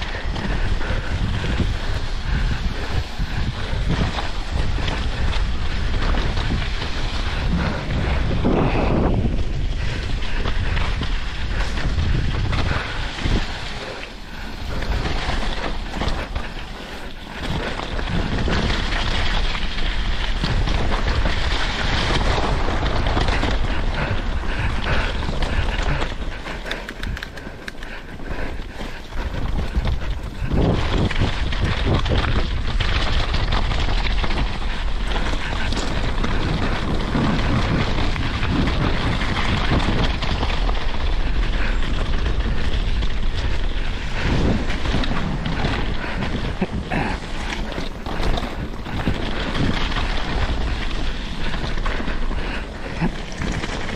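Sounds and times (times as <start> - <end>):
bike tyres rolling on gravel: 0.0 - 53.9
stones and bike clicking: 0.0 - 53.9
wind buffeting microphone: 0.0 - 53.9.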